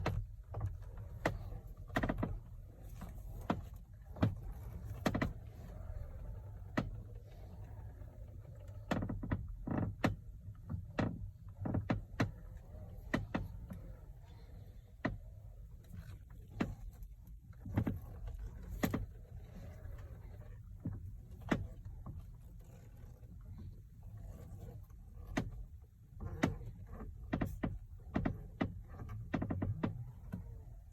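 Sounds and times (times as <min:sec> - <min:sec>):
steering wheel clicks and creaks: 0:00.0 - 0:30.9.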